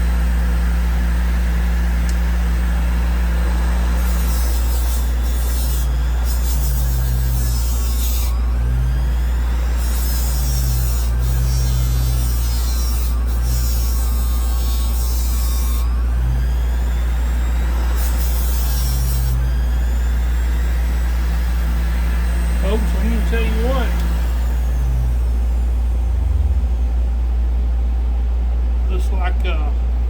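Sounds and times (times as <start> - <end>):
bench grinder motor humming: 0.0 - 30.0.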